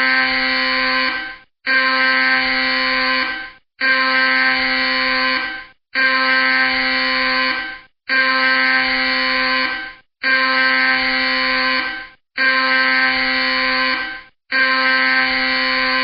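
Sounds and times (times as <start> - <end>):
alarm blasts: 0.0 - 16.0.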